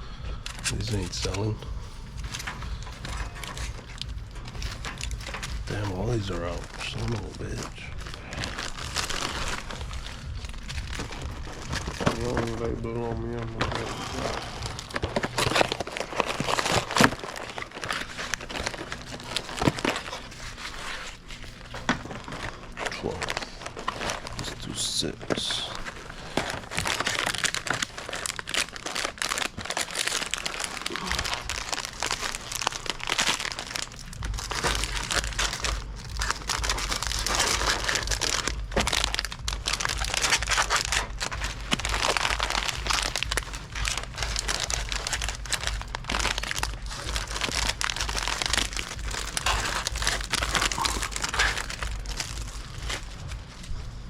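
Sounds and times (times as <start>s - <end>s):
low steady hum: 0.0s - 54.0s
plastic snack bags crinkling: 0.0s - 54.0s.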